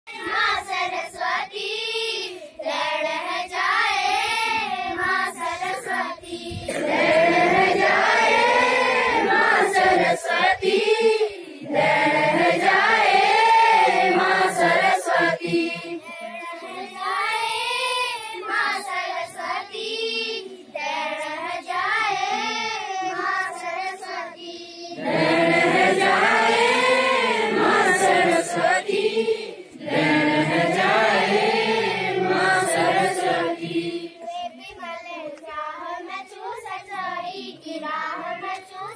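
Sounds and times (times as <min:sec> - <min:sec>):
children's choir singing a prayer: 0:00.1 - 0:38.9.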